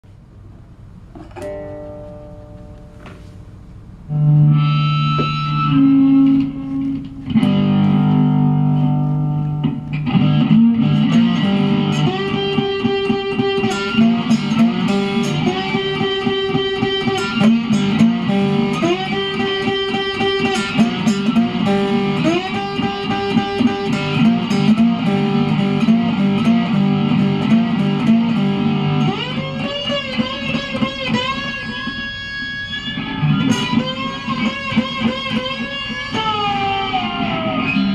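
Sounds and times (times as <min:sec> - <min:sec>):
electric guitar solo: 0:04.1 - 0:37.9.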